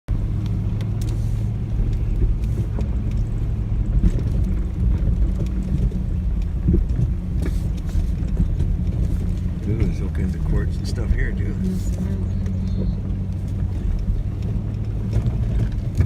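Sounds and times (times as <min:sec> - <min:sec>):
off-road vehicle engine running: 0:00.1 - 0:16.0
vehicle clicks and knocks: 0:00.1 - 0:16.0.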